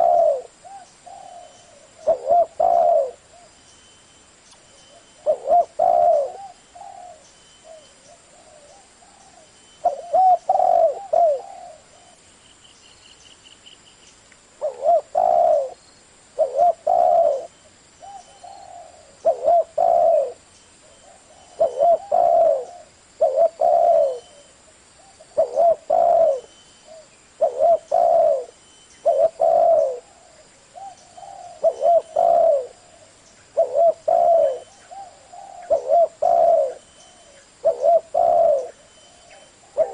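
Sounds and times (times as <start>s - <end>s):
dove cooing: 0.0s - 3.6s, 4.8s - 12.2s, 14.6s - 15.8s, 16.4s - 39.9s.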